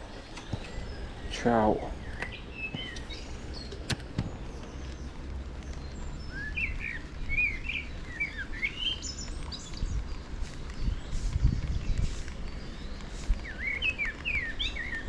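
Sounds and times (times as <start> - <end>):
steady low rumble: 0.0 - 14.7
songbird chirping: 0.0 - 15.0.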